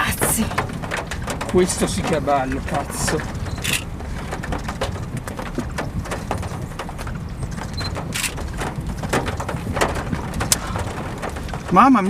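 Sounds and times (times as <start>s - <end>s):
hard objects knocking: 0.0s - 12.0s
storm wind rumbling: 0.0s - 12.0s.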